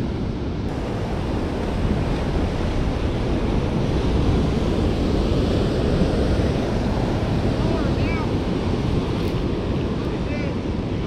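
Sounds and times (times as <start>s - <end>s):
ocean surf washing in: 0.0s - 11.0s
wind rumbling on microphone: 0.0s - 11.0s.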